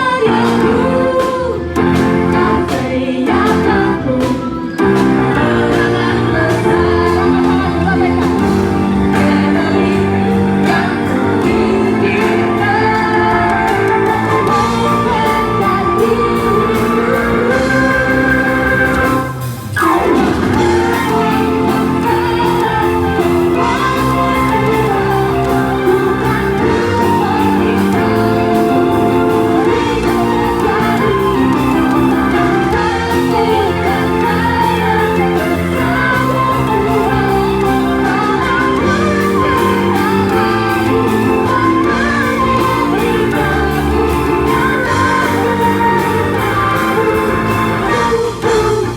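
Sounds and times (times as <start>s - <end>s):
band playing worship song: 0.0s - 48.9s
person singing: 0.0s - 48.9s.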